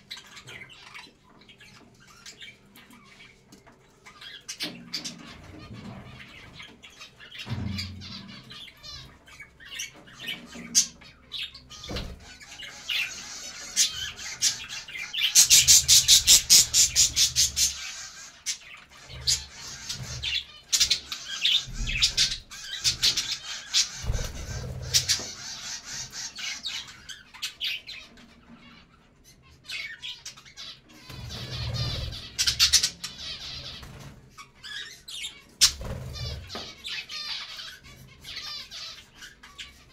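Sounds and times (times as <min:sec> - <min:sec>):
budgerigars chattering and chirping: 0:00.0 - 0:39.9
rapid repeated bird calls: 0:00.0 - 0:39.9.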